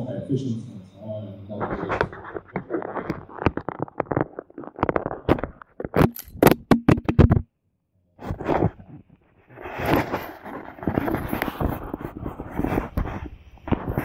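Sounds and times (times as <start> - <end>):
phone handling scrapes and rubs: 1.6 - 7.4, 8.2 - 14.0.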